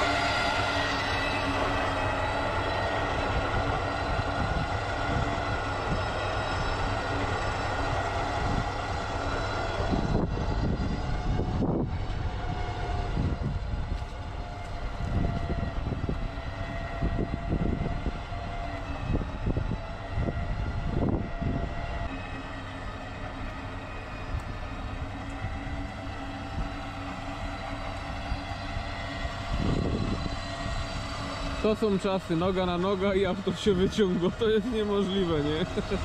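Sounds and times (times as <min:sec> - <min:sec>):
engine running with whine: 0:00.0 - 0:36.0.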